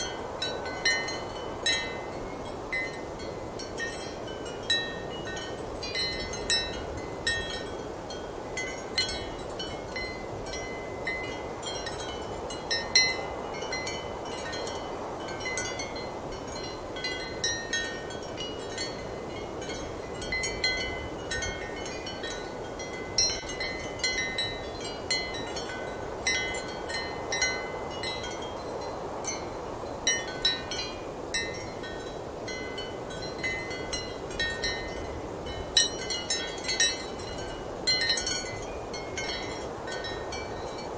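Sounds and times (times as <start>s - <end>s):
ceramic wind chimes clinking: 0.0s - 40.9s.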